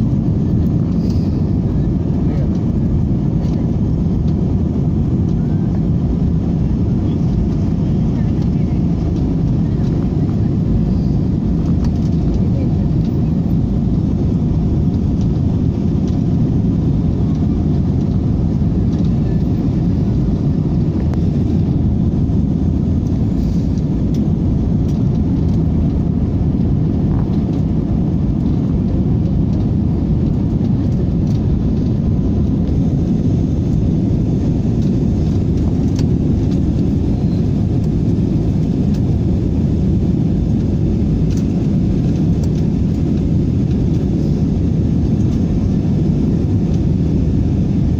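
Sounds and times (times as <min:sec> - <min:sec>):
rushing air: 0:00.0 - 0:07.8, 0:10.5 - 0:47.9
jet engines rumbling: 0:00.0 - 0:47.9.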